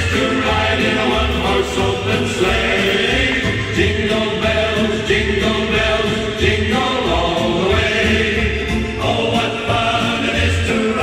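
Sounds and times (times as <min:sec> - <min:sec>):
voices singing together: 0:00.0 - 0:11.0.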